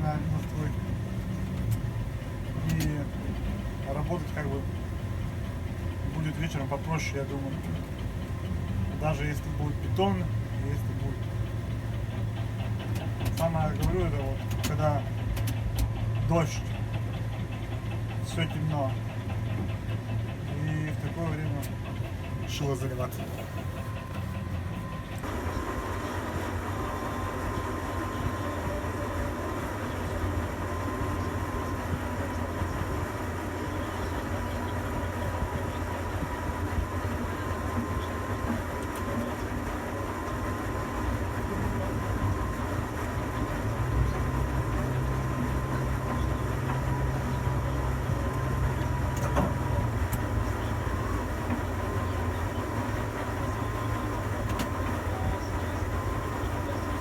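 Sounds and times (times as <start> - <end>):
electric motor hum with whine: 0.0 - 57.0.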